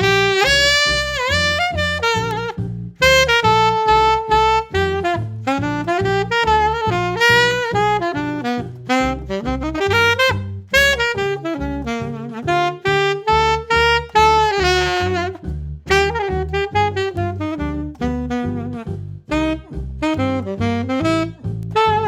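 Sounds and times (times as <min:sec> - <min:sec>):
alto saxophone jazz melody: 0:00.0 - 0:22.0.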